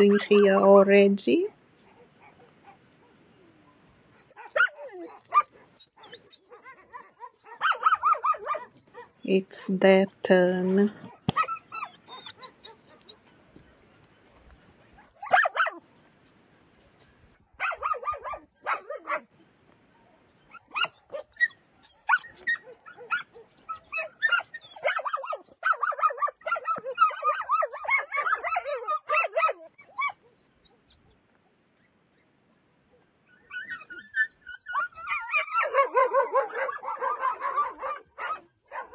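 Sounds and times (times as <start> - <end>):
dogs barking and yipping: 1.7 - 9.3, 11.0 - 15.9, 17.6 - 19.3, 20.4 - 32.3, 32.9 - 38.9.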